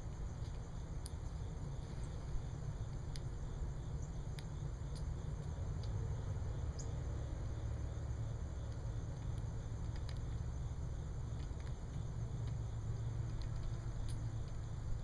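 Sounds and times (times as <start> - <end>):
woodpecker pecking ticks: 0.0 - 2.2, 4.0 - 6.9, 7.5 - 15.0
low outdoor rumble: 0.0 - 15.0.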